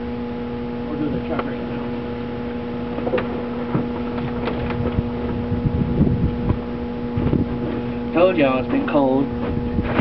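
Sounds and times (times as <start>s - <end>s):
car engine running: 0.7s - 10.0s.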